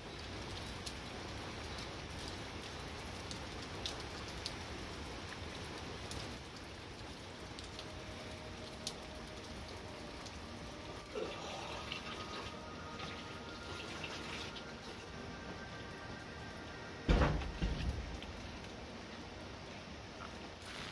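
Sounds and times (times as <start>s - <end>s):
rain falling on trees: 0.0s - 20.9s.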